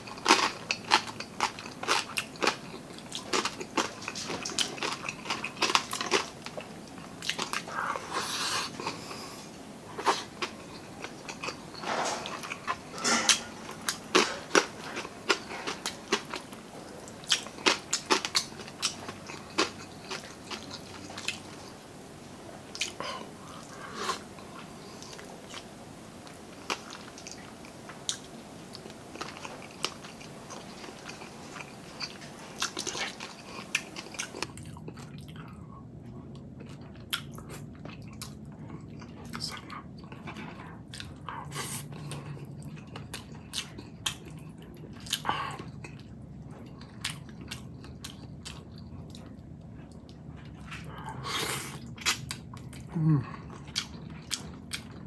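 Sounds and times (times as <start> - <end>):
person chewing crunchy food: 0.0 - 21.9, 22.6 - 55.0.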